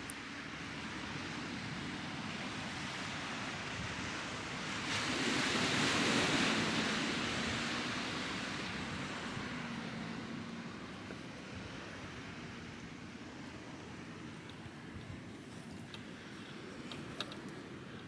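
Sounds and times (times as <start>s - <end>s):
waves washing on beach: 0.0s - 18.0s.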